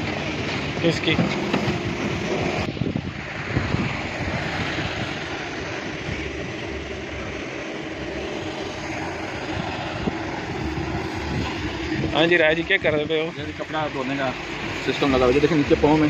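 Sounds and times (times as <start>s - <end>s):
car wash spraying and hissing: 0.0s - 16.0s.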